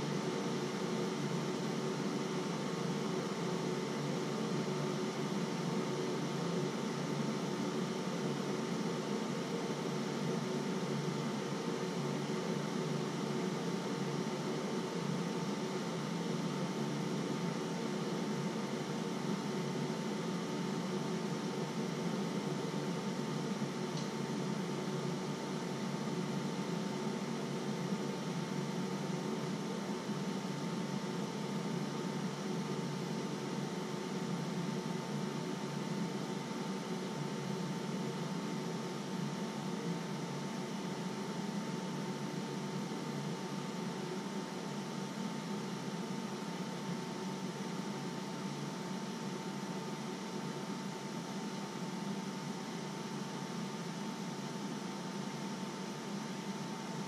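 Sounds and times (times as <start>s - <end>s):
mechanical hum and hiss: 0.0s - 57.0s.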